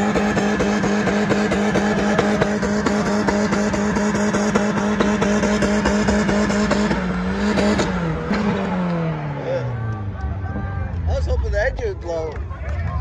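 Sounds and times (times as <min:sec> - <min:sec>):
car engine revving high: 0:00.0 - 0:11.8.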